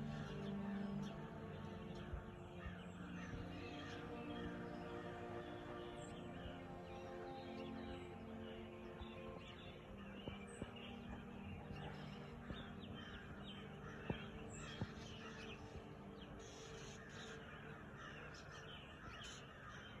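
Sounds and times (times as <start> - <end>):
birds chirping and calling: 0.0 - 20.0.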